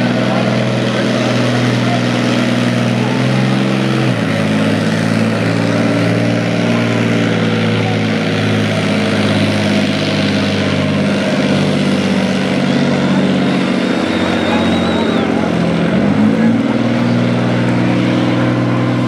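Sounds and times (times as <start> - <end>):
diesel engine under heavy load: 0.0 - 19.0.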